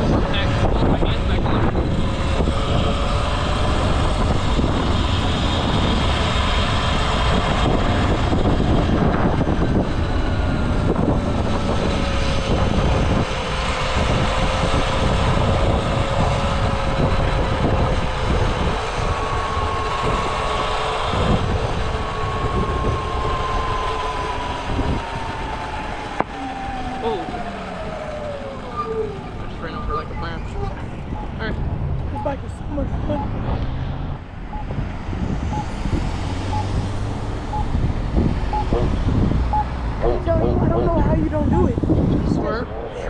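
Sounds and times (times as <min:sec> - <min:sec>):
motorbike engine whine: 0:00.0 - 0:43.0
wind rumble on microphone: 0:00.0 - 0:43.0.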